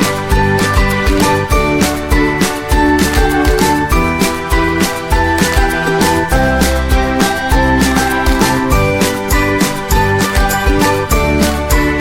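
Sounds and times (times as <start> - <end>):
upbeat music with tinkling melody: 0.0 - 12.0.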